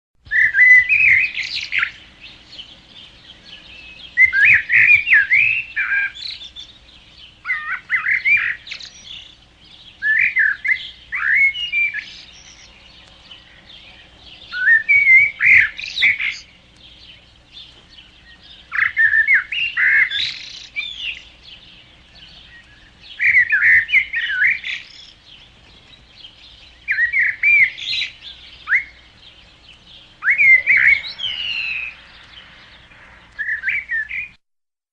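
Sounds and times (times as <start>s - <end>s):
songbird singing: 0.2s - 34.4s.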